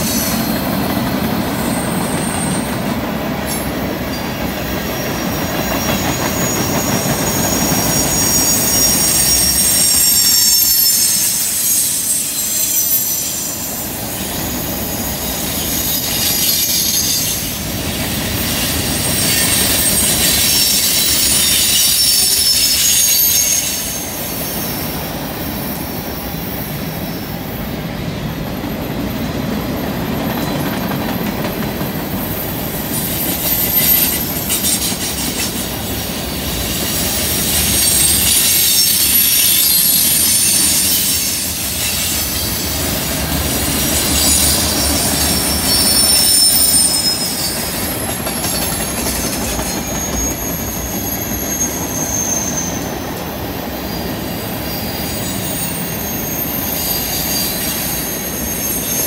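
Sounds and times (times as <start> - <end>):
steel wheels rumbling on rail: 0.0 - 59.0
wheel flange squeal: 3.5 - 27.5, 32.1 - 59.0.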